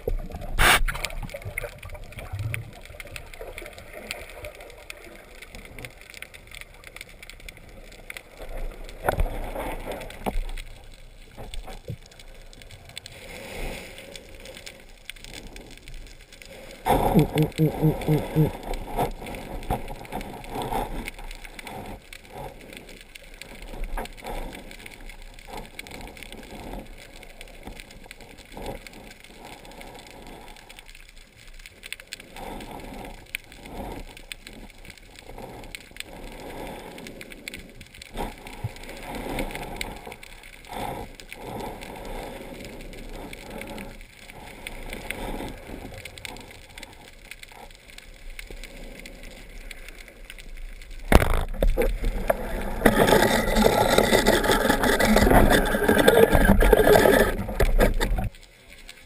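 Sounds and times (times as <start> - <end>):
underwater crackle: 0.0 - 59.0.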